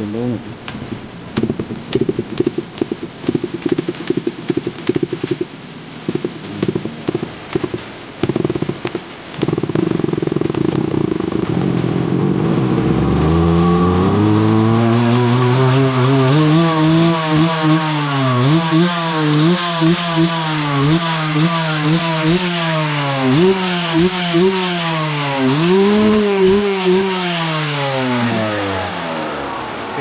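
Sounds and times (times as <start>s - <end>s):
vehicle engine revving: 0.6s - 30.0s.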